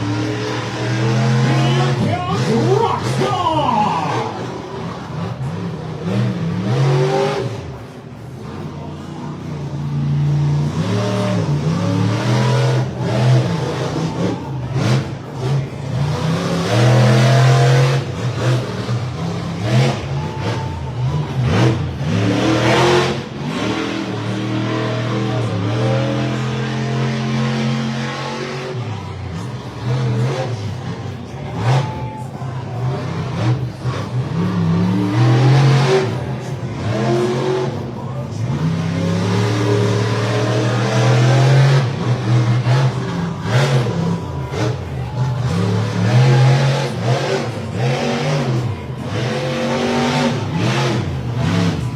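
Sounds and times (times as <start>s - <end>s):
monster truck engine revving: 0.0s - 51.9s.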